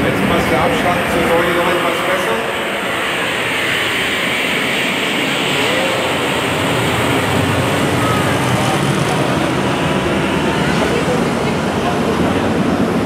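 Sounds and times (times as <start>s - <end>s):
constant rushing noise: 0.0s - 13.0s
crowd murmuring: 0.0s - 13.0s.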